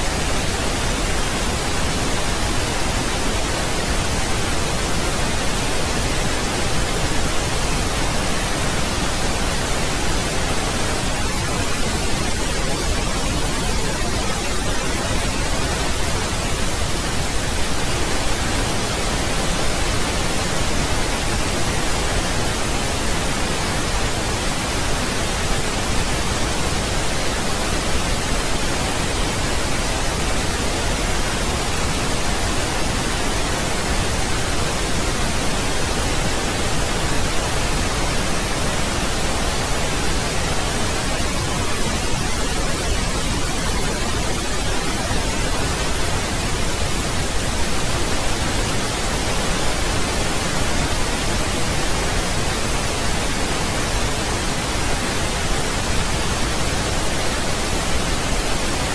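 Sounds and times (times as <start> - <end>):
steady pink noise hiss: 0.0 - 58.9.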